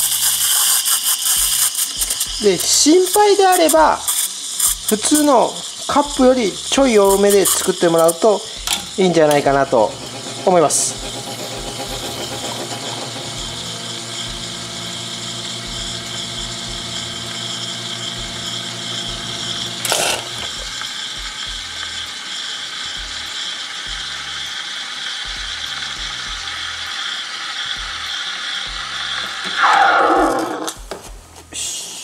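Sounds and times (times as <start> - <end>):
espresso machine pump humming: 0.0 - 30.9.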